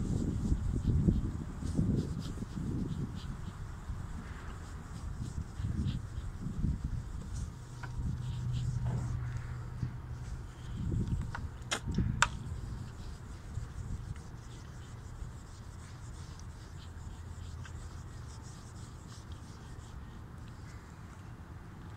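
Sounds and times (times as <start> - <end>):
paper towel rubbing plastic: 0.0 - 11.6, 12.4 - 20.7
steady low rumble: 0.0 - 21.9.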